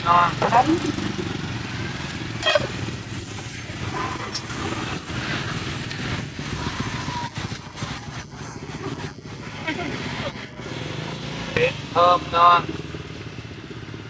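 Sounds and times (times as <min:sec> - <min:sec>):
busy street market ambience: 0:00.0 - 0:14.0
motorbike engines running: 0:00.0 - 0:14.0.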